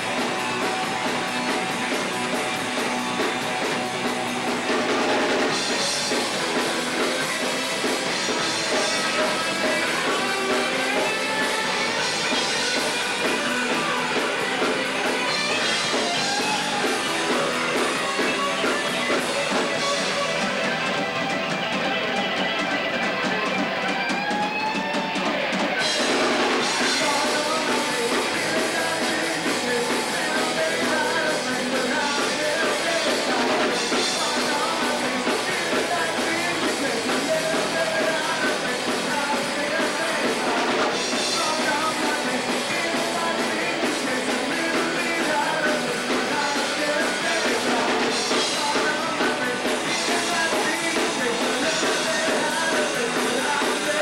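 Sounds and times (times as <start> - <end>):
rock band playing live: 0.0 - 54.0
person singing: 4.8 - 54.0.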